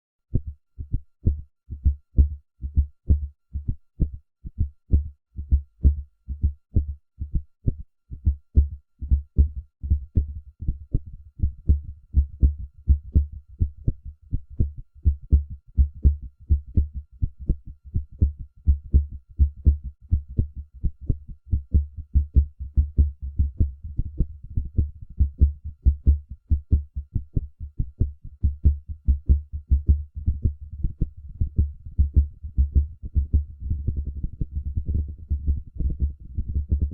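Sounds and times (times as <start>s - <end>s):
heartbeat thumps: 0.3s - 36.9s.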